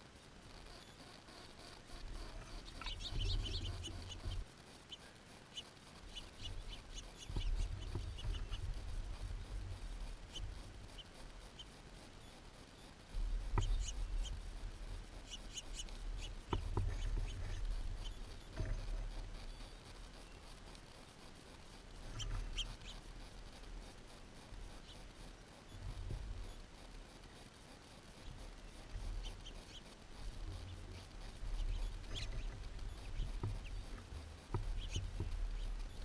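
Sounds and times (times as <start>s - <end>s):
small birds chirping: 0.2s - 36.0s.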